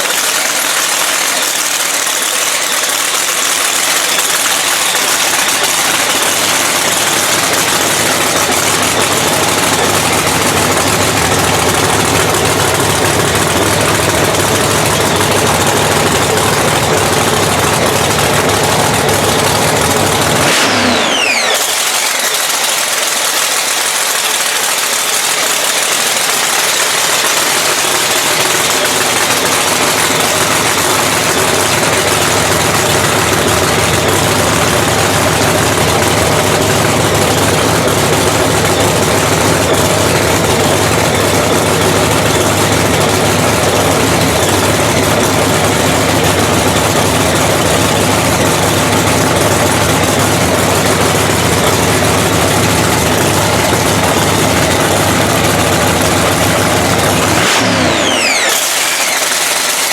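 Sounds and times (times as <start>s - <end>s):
drag-racing engine idling loudly: 0.0s - 59.9s.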